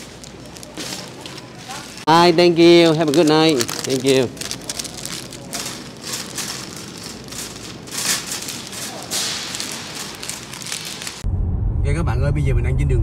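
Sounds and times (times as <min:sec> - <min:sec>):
shopping cart rattling: 0:00.0 - 0:11.2.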